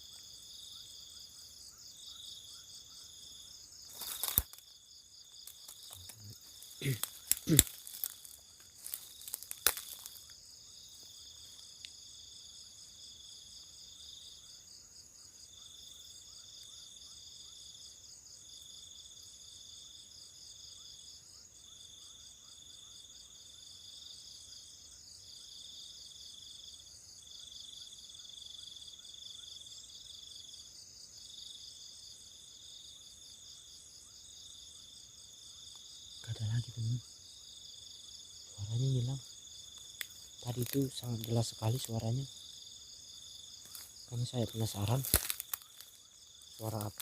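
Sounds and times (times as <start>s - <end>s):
crickets trilling: 0.0s - 47.0s.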